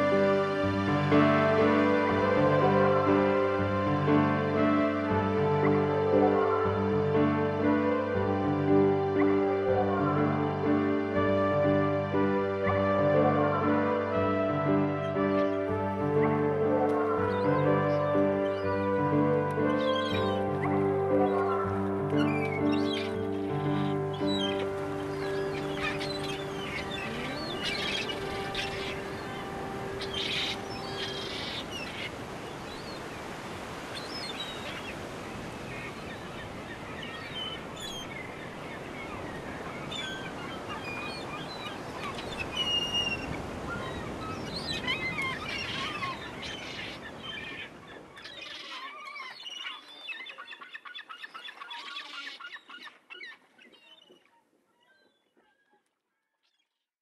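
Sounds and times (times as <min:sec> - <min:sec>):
seagulls calling: 0:00.0 - 0:55.8.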